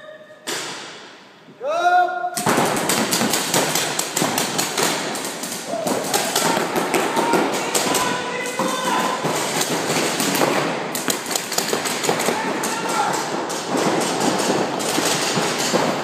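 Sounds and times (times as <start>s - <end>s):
paintball markers firing: 2.4s - 16.0s
paintballs smacking bunkers: 2.4s - 16.0s.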